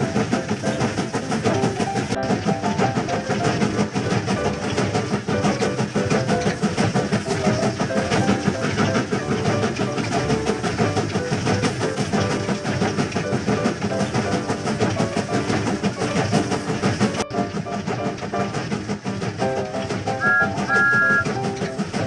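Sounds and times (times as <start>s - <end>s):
background music with steady beat: 0.0s - 22.0s
train running: 0.0s - 22.0s.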